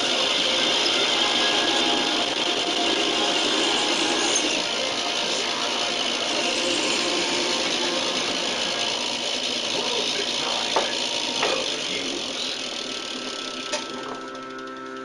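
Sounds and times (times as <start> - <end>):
lathe cutting metal: 0.0 - 15.0
lathe machine hum: 0.0 - 15.0.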